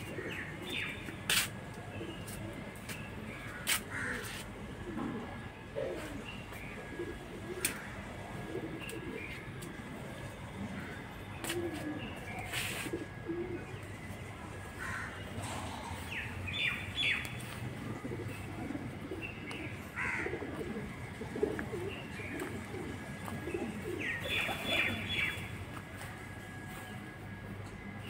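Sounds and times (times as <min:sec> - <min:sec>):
pigeons cooing: 0:00.0 - 0:02.9, 0:03.6 - 0:26.8.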